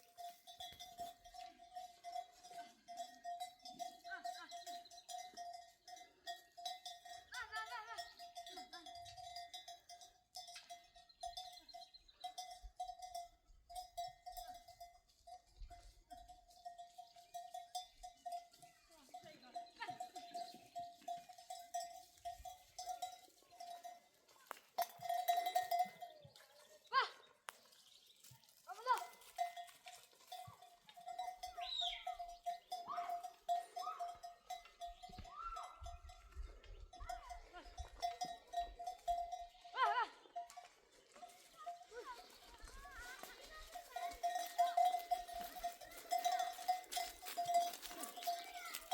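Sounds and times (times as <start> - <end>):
livestock bells jangling: 0.0 - 48.9.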